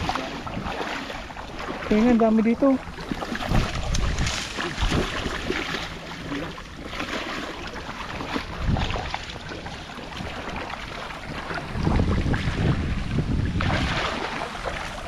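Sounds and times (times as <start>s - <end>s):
wading through shallow water: 0.0s - 15.0s.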